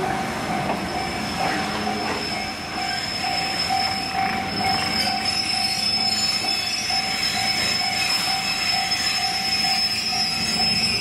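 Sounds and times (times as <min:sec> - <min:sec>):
train rumble: 0:00.0 - 0:11.0
high steady squeal: 0:00.8 - 0:11.0.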